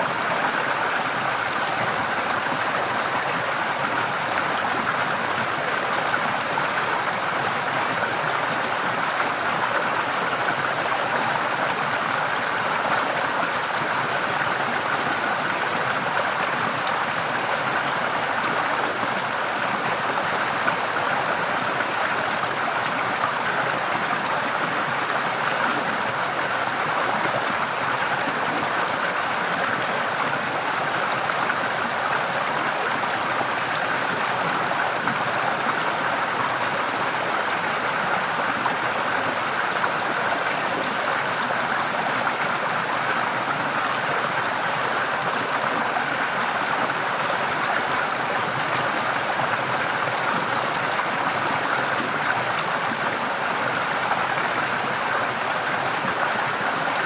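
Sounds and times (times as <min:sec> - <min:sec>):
stream flowing and splashing: 0:00.0 - 0:57.0.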